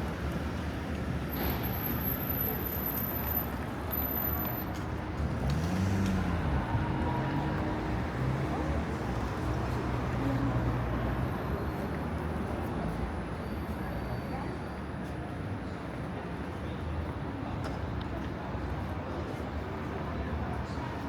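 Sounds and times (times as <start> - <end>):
street noise: 0.0 - 21.0.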